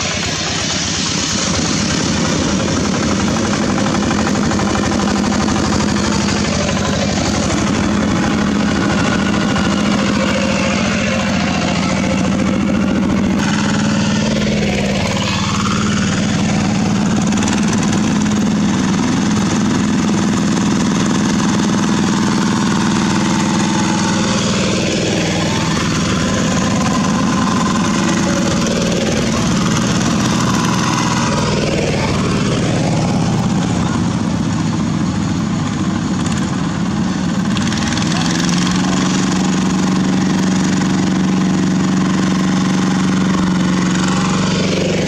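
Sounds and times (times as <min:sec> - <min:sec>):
diesel engines droning: 0:00.0 - 0:45.0.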